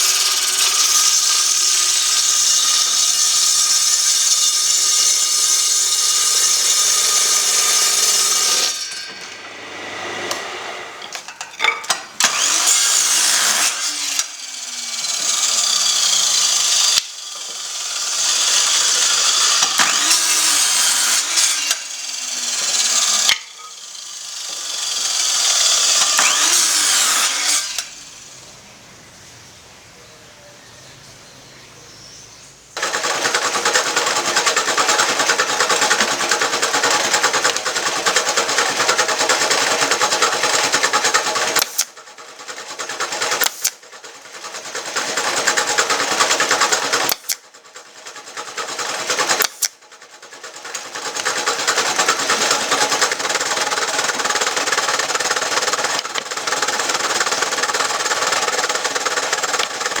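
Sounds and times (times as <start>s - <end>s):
electric power tool running: 0.0s - 28.6s, 32.8s - 60.0s.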